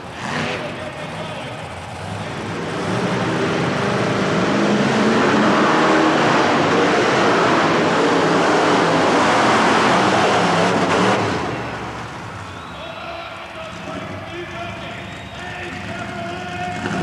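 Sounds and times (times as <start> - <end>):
truck engine at full throttle: 0.0 - 17.0.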